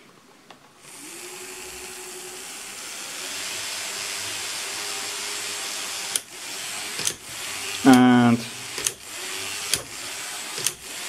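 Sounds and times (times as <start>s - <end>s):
electric motor whine: 0.8s - 11.0s.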